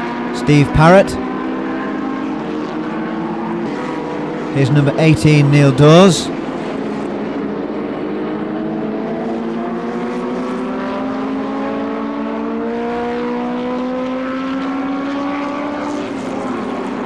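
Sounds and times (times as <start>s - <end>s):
racing car engine accelerating: 0.0s - 17.0s.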